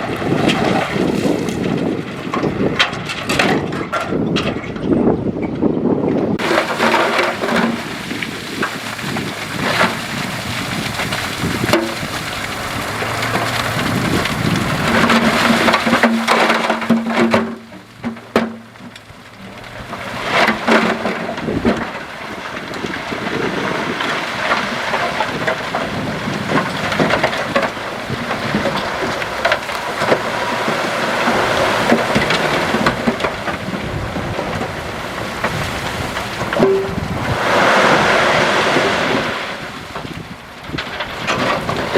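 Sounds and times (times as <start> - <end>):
rocks crunching and grinding: 0.0 - 41.9
diesel engine running: 6.4 - 41.9.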